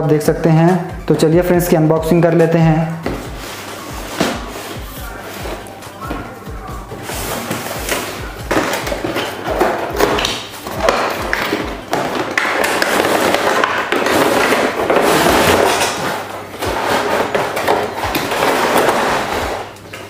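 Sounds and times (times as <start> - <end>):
cardboard and plastic rustling: 3.0 - 20.0.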